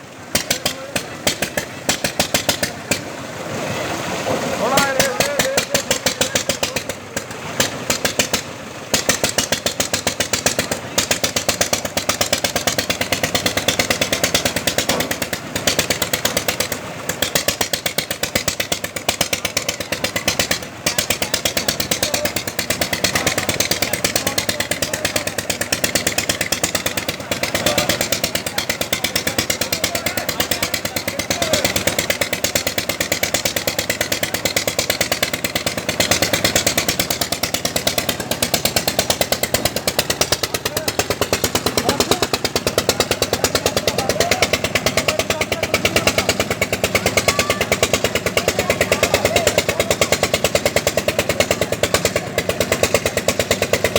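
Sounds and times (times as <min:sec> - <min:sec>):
small engine knocking rapidly: 0:00.0 - 0:53.9.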